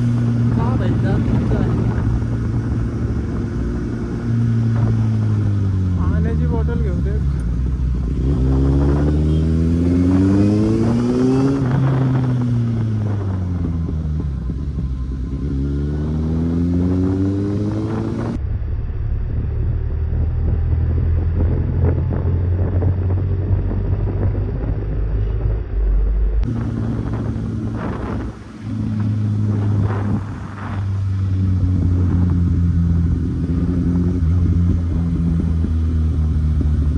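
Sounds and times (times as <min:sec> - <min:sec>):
dull engine drone: 0:00.0 - 0:36.9
motorcycle engine accelerating: 0:00.0 - 0:36.9.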